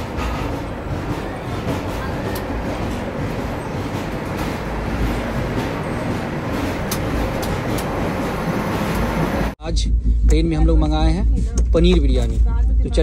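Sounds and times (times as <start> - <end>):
train coach rumble: 0.0 - 13.0.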